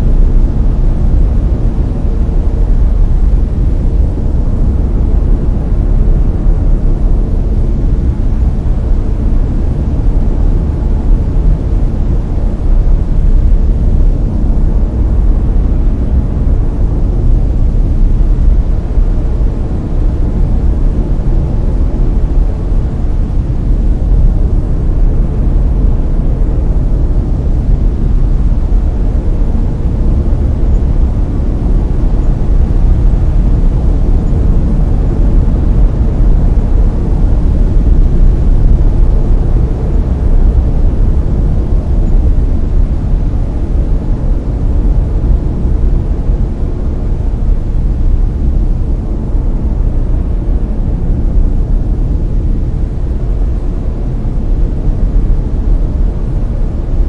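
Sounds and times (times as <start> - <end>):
deep rumbling brown noise: 0.0 - 57.0.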